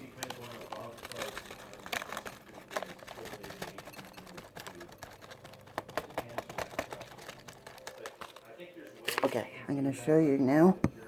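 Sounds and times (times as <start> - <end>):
paper packet rustling: 0.0 - 10.0.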